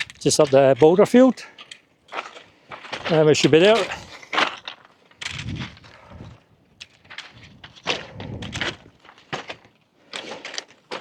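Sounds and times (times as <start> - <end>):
boots stepping over stones: 0.0 - 11.0.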